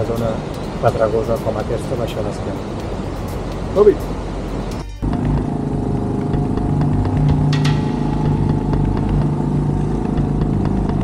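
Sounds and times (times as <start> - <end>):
quad engine under load: 0.0 - 11.0.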